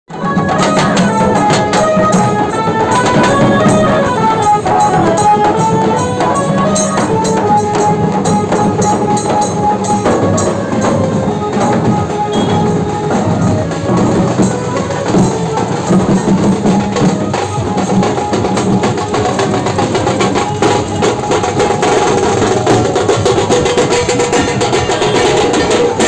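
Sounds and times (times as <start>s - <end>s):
melody of held notes: 0.1s - 24.9s
drums beaten in fast rhythm: 0.1s - 26.0s.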